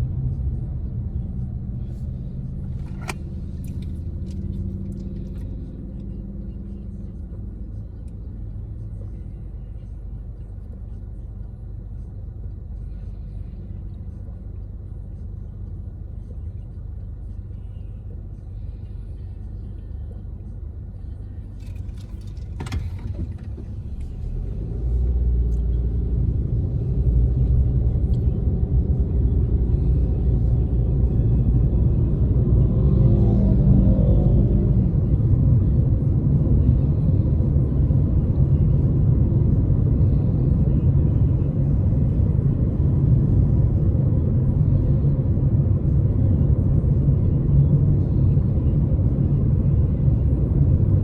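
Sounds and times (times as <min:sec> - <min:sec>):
car engine and tyres rumble: 0:00.0 - 0:51.0.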